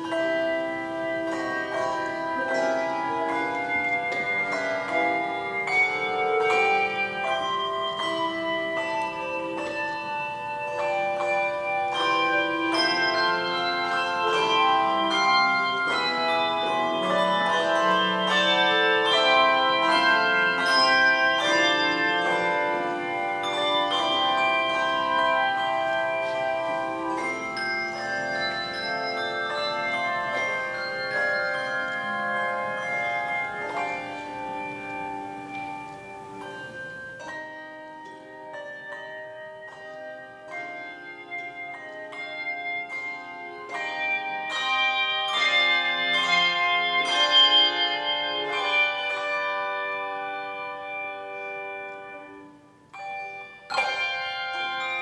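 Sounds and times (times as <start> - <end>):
handbell choir ringing a carol: 0.0 - 55.0.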